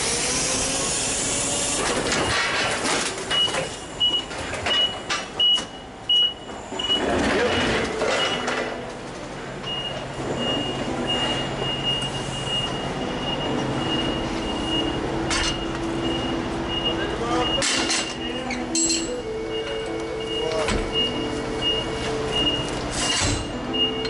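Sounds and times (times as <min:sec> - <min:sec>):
forklift reversing alarm beeping: 0:00.9 - 0:02.6, 0:03.3 - 0:08.9, 0:09.6 - 0:24.0.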